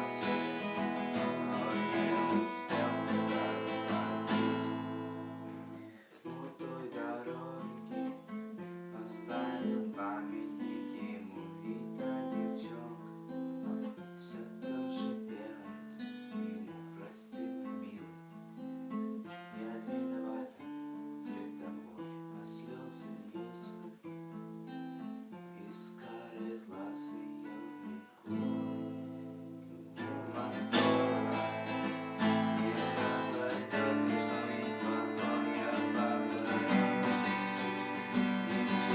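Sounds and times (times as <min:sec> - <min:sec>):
acoustic guitar playing: 0:00.0 - 0:38.9.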